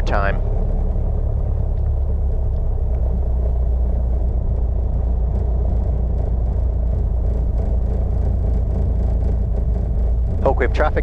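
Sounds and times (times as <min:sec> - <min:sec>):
aircraft piston engine droning: 0:00.0 - 0:11.0.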